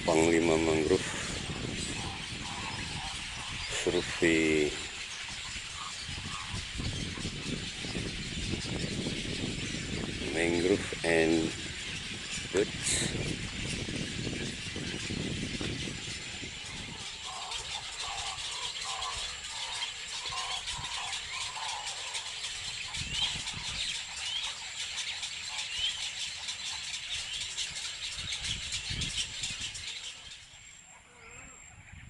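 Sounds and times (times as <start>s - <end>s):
wild birds calling: 0.0s - 32.0s.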